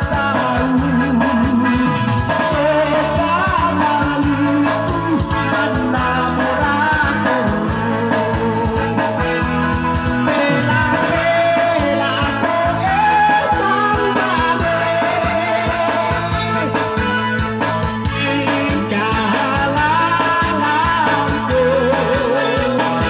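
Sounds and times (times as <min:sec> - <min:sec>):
amplified backing music with beat: 0:00.0 - 0:23.0
man singing into a microphone: 0:00.0 - 0:23.0.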